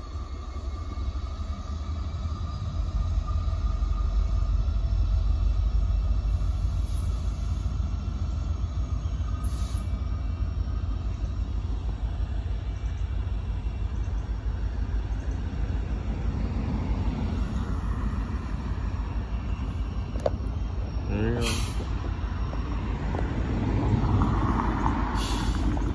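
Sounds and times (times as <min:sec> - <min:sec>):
diesel locomotive rumbling: 0:00.0 - 0:25.9.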